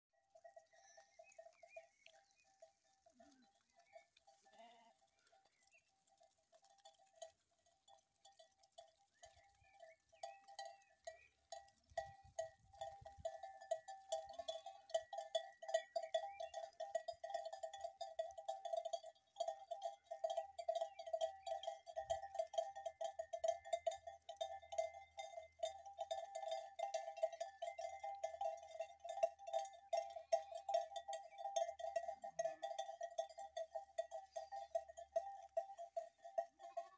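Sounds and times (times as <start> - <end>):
sheep bells clinking: 0.2 - 36.9.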